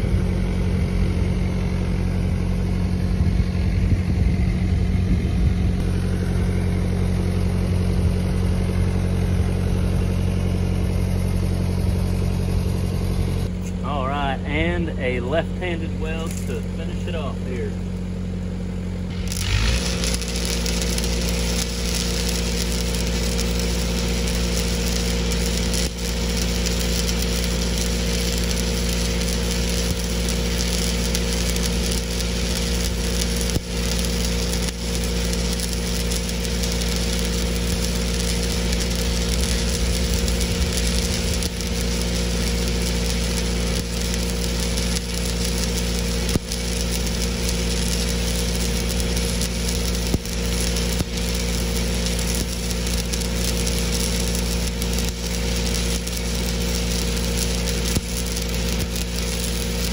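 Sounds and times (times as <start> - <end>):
steady low hum: 0.0 - 59.9
welding arc crackling and sizzling: 5.6 - 59.9.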